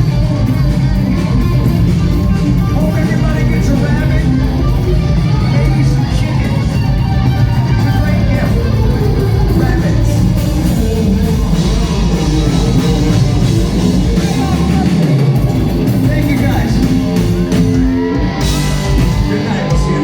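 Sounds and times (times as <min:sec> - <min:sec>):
bass: 0:00.0 - 0:20.0
drums: 0:00.0 - 0:20.0
electric guitars: 0:00.0 - 0:20.0.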